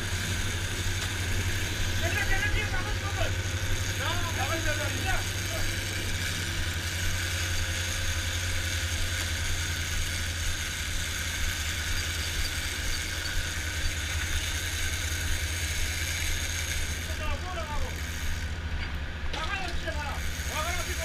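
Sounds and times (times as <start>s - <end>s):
boat engines droning: 0.0s - 21.0s
wind: 0.0s - 21.0s.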